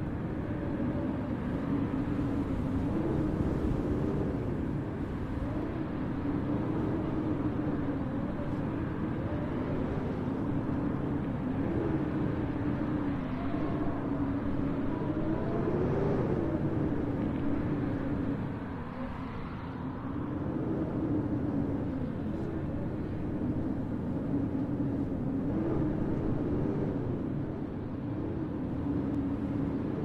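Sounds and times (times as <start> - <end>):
continuous rumble: 0.0 - 30.0.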